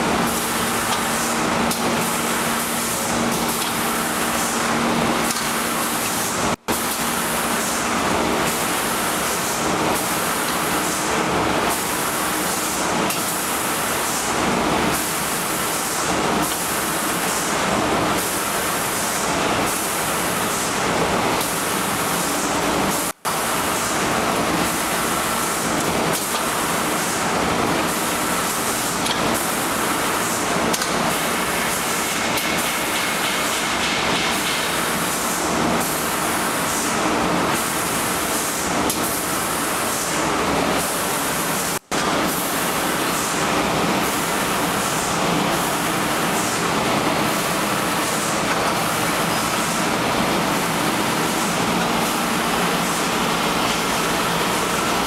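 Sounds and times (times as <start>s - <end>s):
loud machinery noise: 0.0s - 55.0s.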